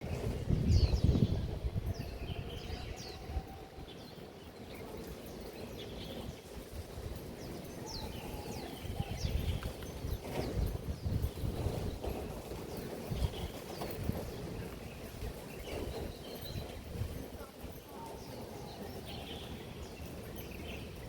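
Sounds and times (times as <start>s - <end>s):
wind rumble on microphone: 0.0s - 21.0s
small birds chirping: 0.1s - 21.0s.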